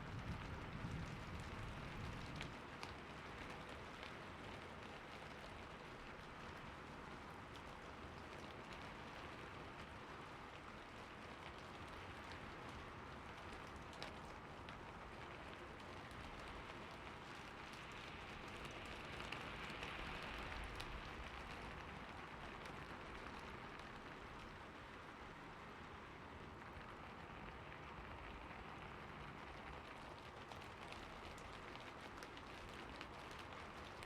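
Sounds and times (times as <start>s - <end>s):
raindrop ticks: 0.0s - 34.0s
steady rain: 0.0s - 34.0s.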